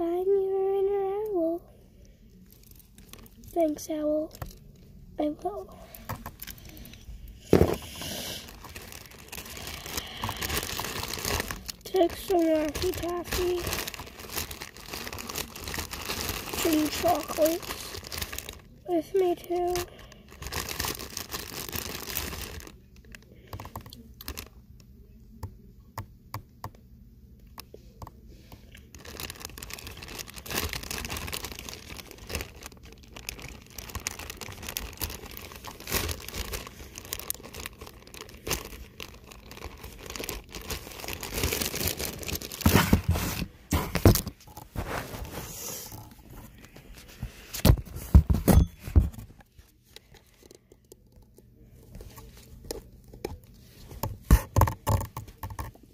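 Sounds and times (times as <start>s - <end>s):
materials crinkling and rustling: 2.4s - 24.6s, 27.7s - 55.9s.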